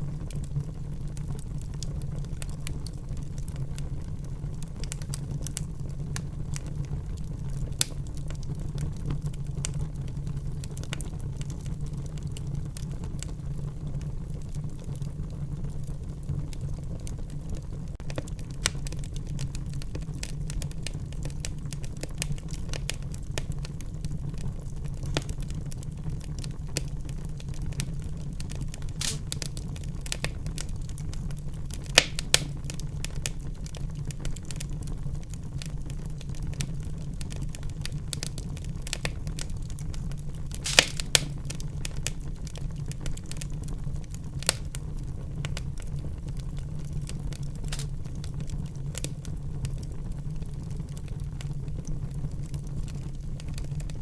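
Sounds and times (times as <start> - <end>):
fire popping: 0.0 - 54.0
low rumble of flame: 0.0 - 54.0
wood fire crackling: 0.0 - 54.0.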